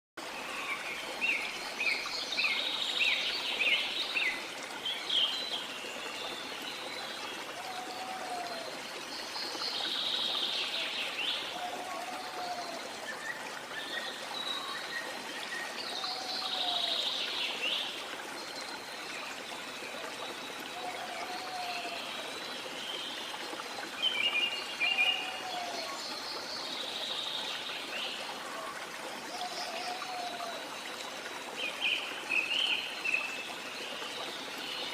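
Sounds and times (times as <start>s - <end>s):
water rushing: 0.2s - 34.9s.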